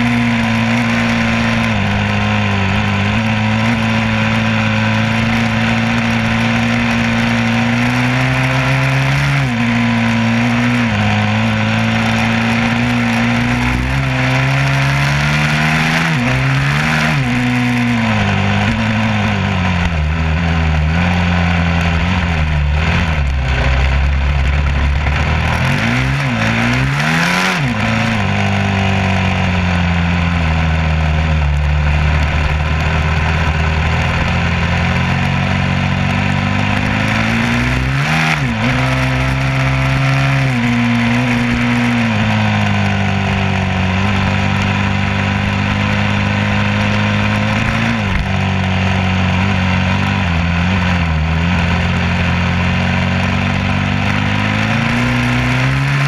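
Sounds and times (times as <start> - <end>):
engine running loudly: 0.0 - 56.0
wind or road noise: 0.0 - 56.0.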